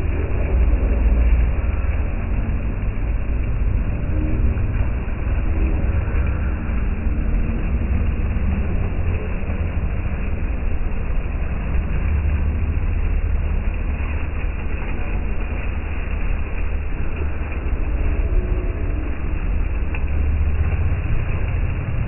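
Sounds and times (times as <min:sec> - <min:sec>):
deep steady rumble: 0:00.0 - 0:22.0
fountain water splashing: 0:00.0 - 0:22.0.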